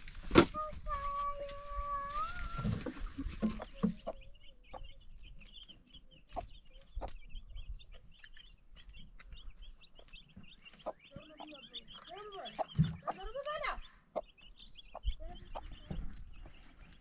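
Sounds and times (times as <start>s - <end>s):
hen clucking: 0.6s - 17.0s.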